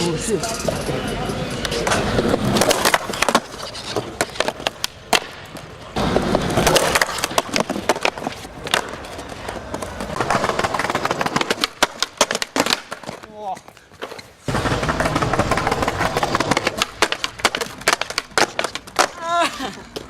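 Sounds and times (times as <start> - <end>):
skateboard wheels rolling: 0.0 - 20.0
skateboard clacking on ground: 0.2 - 20.0.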